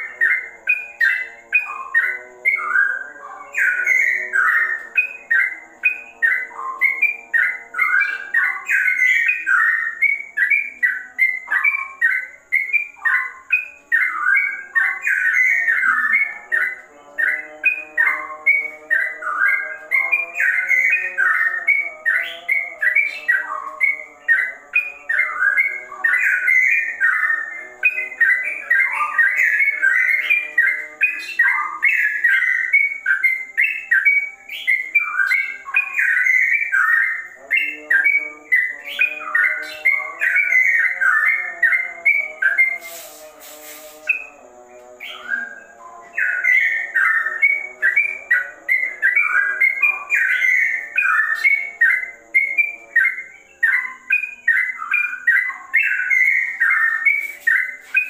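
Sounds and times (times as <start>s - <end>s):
bulbul singing whistled notes: 0.0s - 58.0s.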